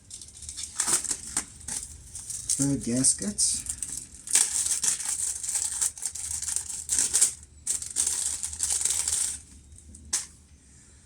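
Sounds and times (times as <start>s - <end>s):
packaging crinkling and rustling: 0.0s - 10.3s.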